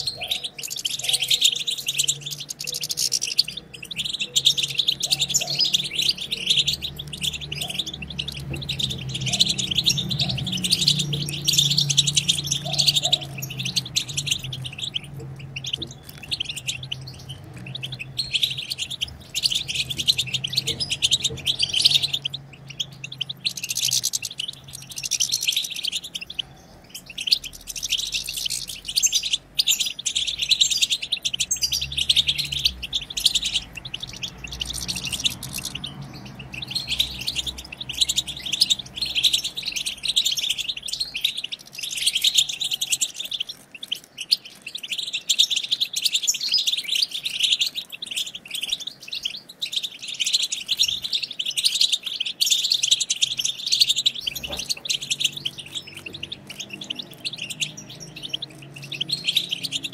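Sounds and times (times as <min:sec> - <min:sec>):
goldfinches chattering and twittering: 0:00.0 - 0:59.9.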